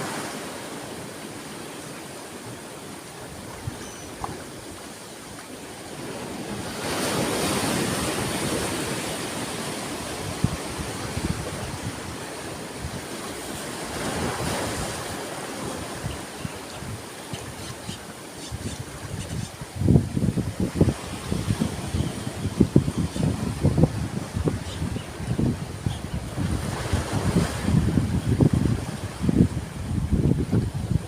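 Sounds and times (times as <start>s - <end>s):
ocean waves washing on shore: 0.0s - 31.0s.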